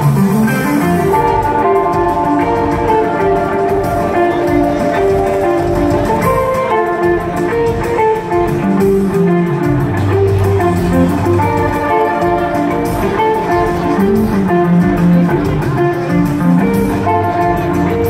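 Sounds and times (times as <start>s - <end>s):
guitar playing picked melody: 0.0s - 18.0s.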